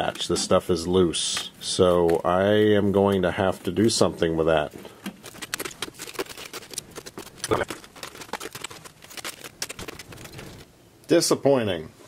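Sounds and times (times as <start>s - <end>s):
dry crackling and scratching: 0.0s - 10.7s.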